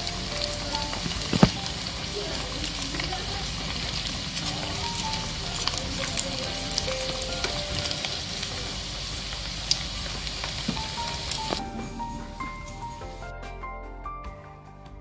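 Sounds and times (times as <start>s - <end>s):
food deep-frying in oil: 0.0s - 13.2s
faint background music: 0.0s - 15.0s.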